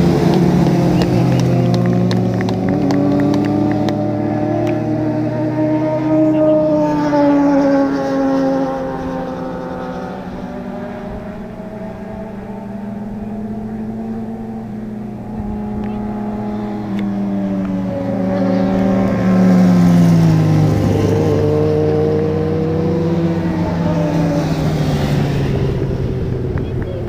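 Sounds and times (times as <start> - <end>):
racing motorcycles passing: 0.0 - 27.0.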